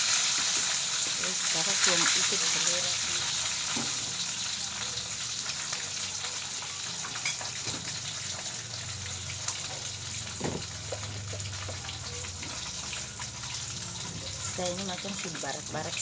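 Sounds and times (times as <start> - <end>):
hot oil sizzling in a frying pan: 0.0 - 16.0.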